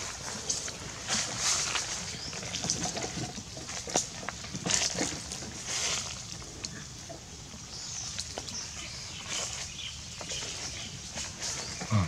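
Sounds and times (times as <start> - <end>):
dry leaves rustling and crackling: 0.0 - 7.0, 7.7 - 12.0.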